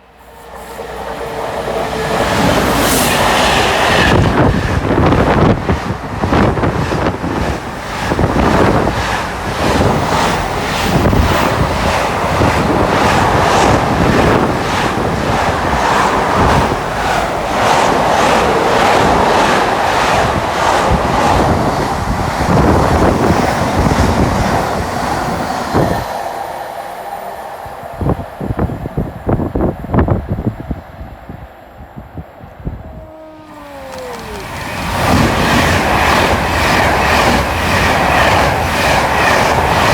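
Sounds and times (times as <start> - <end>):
train passing at speed: 0.0 - 39.9
train wheel beats: 0.8 - 26.2, 32.8 - 39.9.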